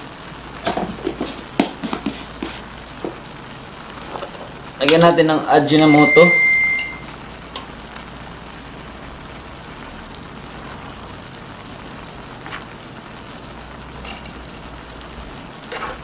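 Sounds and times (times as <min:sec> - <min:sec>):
shrimp sizzling in a frying pan: 0:00.0 - 0:16.0.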